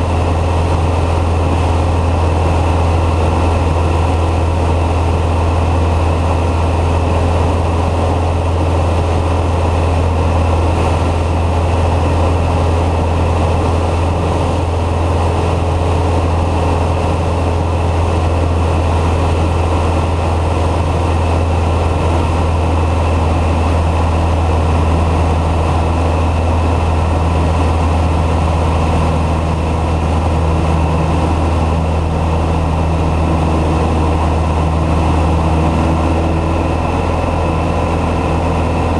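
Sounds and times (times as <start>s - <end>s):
light plane engine drone: 0.0s - 38.9s.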